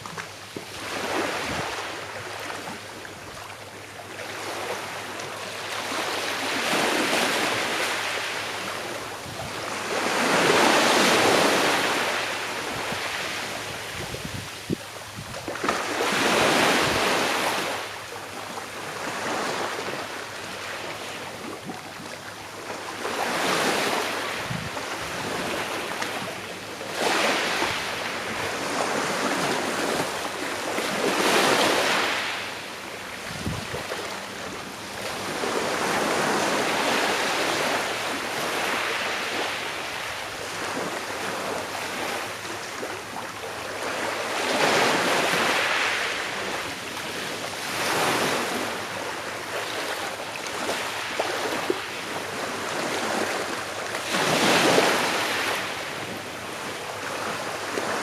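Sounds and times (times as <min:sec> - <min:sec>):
small waves breaking on shore: 0:00.0 - 0:58.0.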